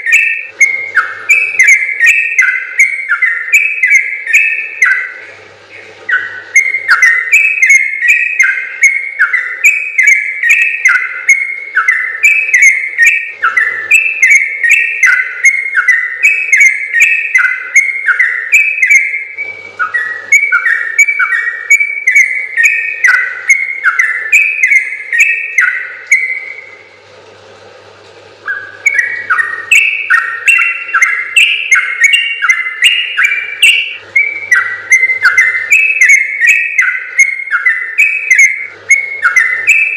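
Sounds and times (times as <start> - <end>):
bulbul singing bubbly whistles: 0.0 - 27.0, 28.4 - 39.9.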